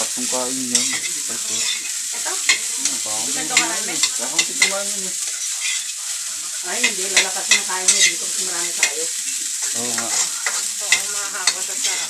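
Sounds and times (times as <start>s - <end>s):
sizzling in a hot pan: 0.0s - 12.0s
metal spatula scraping a wok: 0.7s - 12.0s.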